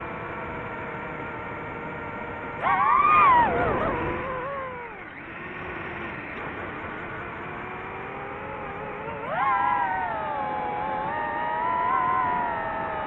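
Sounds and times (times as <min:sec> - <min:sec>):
drone electric motors whining: 0:00.0 - 0:13.0.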